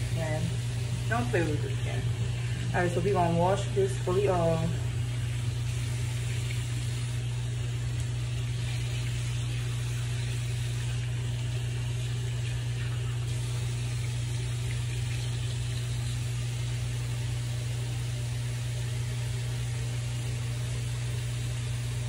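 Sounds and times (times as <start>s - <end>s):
sink tap running: 0.0s - 22.0s
steady low hum: 0.0s - 22.0s.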